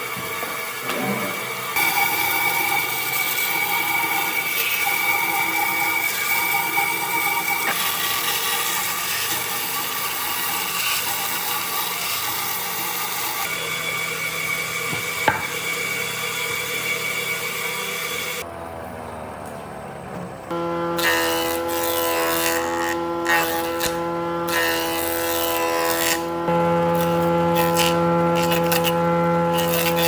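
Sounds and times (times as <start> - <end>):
woodworking power tool cutting wood: 0.0 - 18.5, 20.5 - 30.0.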